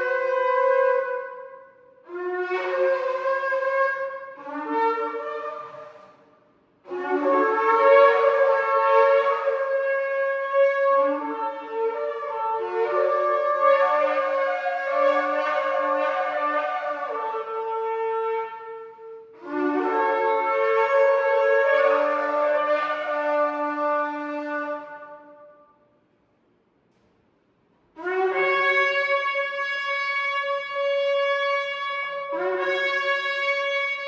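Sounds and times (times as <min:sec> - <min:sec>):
shofar blasts: 0:00.0 - 0:25.8, 0:27.9 - 0:34.0.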